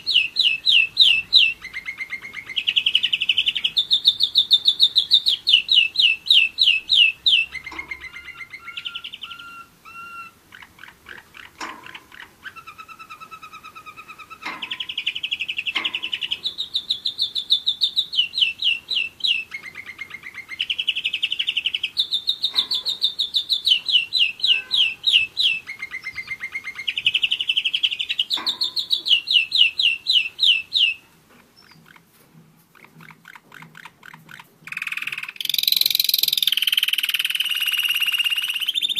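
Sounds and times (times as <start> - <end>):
canary singing rapid trills: 0.0 - 31.0, 32.7 - 38.9.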